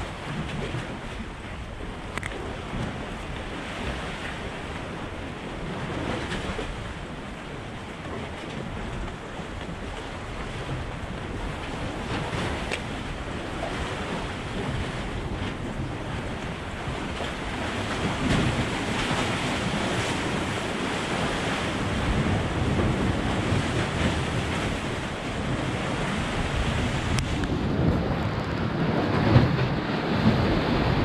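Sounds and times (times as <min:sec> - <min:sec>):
sea waves: 0:00.0 - 0:31.0
wind buffeting microphone: 0:00.0 - 0:31.0.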